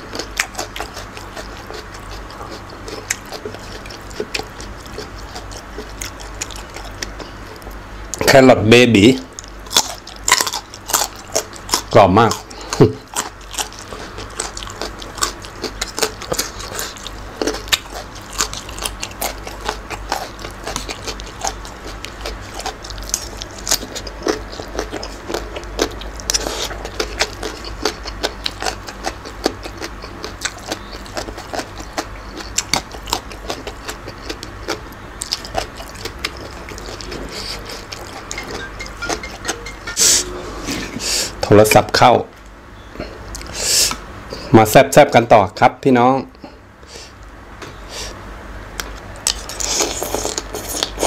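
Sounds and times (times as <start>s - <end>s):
crunchy chewing with mouth clicks: 0.0s - 8.3s, 9.2s - 39.7s, 42.4s - 44.5s, 47.9s - 51.0s.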